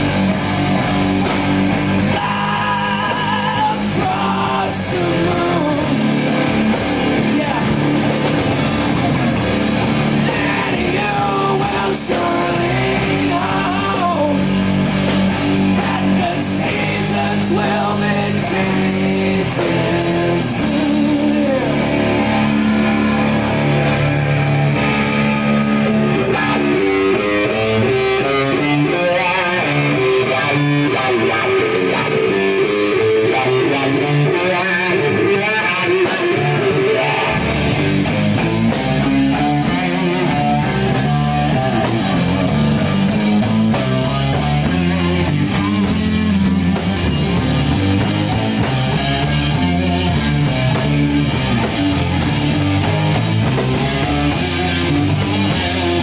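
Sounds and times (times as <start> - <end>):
electric guitar riffing: 0.0 - 56.0
heavy metal band playing: 0.0 - 56.0.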